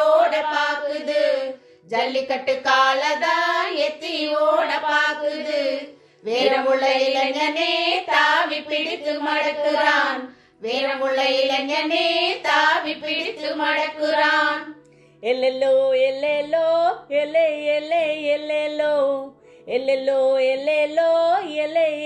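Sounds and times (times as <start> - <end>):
women singing folk song: 0.0 - 22.0.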